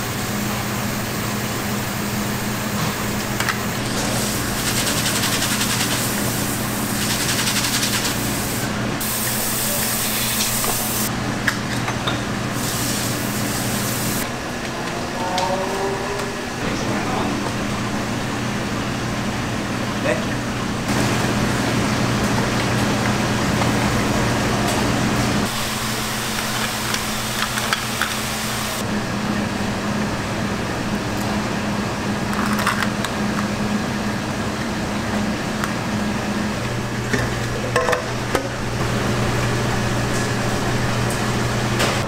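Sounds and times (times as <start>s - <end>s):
exhaust fan humming: 0.0s - 42.0s.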